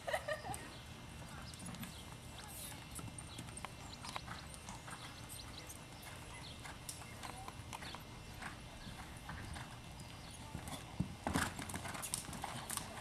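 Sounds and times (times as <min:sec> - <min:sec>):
horse hoofbeats on sand: 0:01.3 - 0:13.0.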